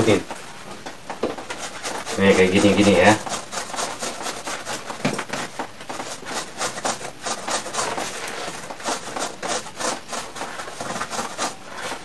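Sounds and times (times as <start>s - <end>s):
brush scrubbing: 0.0s - 12.0s.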